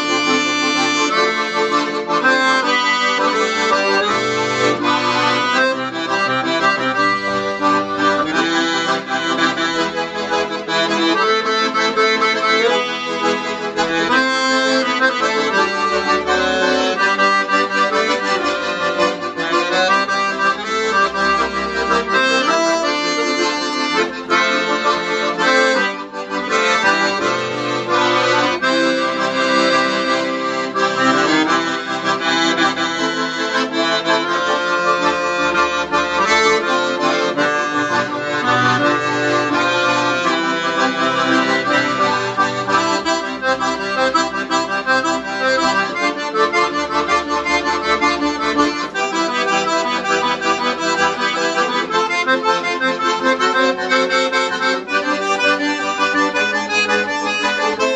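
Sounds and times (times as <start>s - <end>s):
piano accordions playing a hymn: 0.0s - 57.9s.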